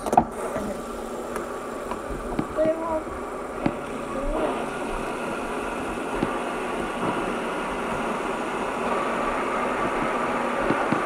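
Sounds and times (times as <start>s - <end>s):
fidget spinners whirring: 0.0s - 11.0s.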